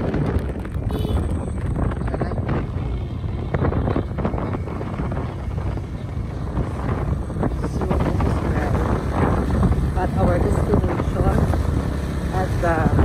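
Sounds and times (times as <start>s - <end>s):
vehicle rumble: 0.0s - 13.0s
wind rushing over microphone: 0.0s - 13.0s.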